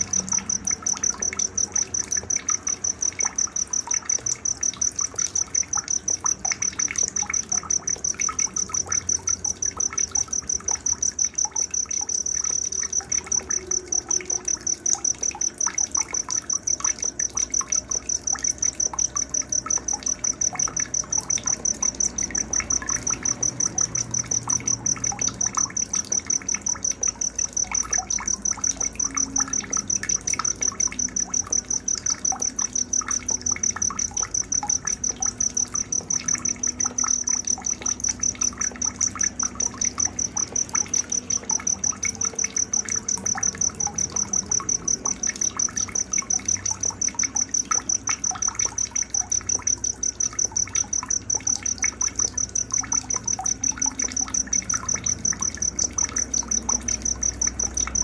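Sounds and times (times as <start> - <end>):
cricket chirping: 0.0 - 58.0
faint trickle of water: 0.0 - 58.0.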